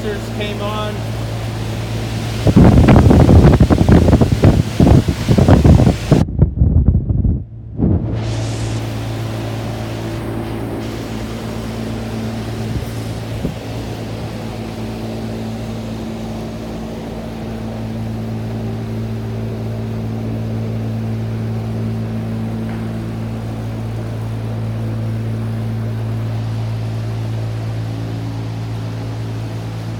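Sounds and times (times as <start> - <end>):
air conditioner humming: 0.0 - 29.9.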